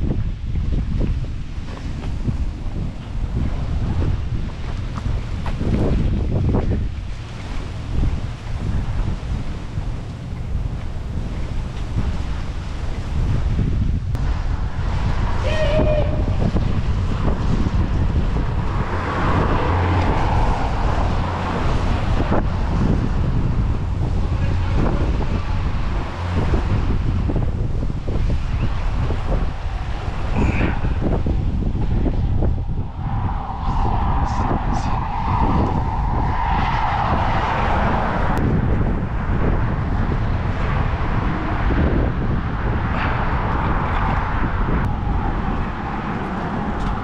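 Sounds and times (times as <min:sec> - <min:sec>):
heavy low rumble: 0:00.0 - 0:47.0
highway traffic rushing: 0:00.0 - 0:47.0
vehicle tyre hum: 0:00.0 - 0:47.0
wind buffeting microphone: 0:00.0 - 0:47.0.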